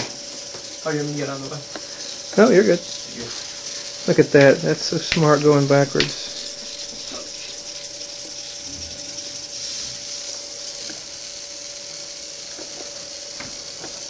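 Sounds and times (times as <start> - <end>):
robot servo motors whirring: 0.0 - 14.0.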